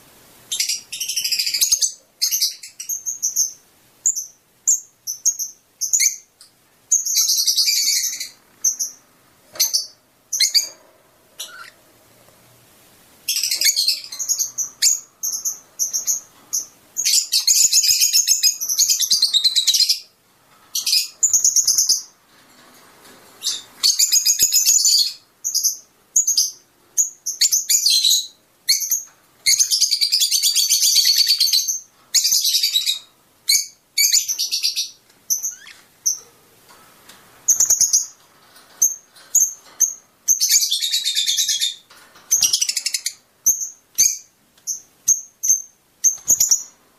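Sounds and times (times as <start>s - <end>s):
lovebirds chirping: 0.5s - 22.2s, 23.2s - 46.8s.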